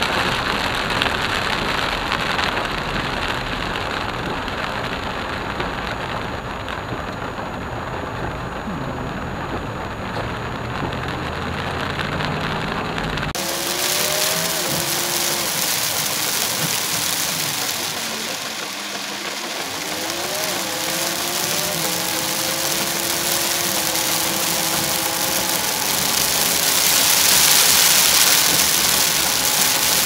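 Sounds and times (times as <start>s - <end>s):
heavy rain on car roof: 0.0s - 30.0s
tyre spray on wet road: 0.0s - 30.0s.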